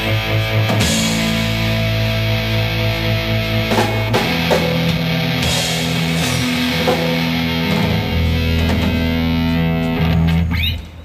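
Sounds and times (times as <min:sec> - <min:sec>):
rock band playing instrumental: 0:00.0 - 0:10.7.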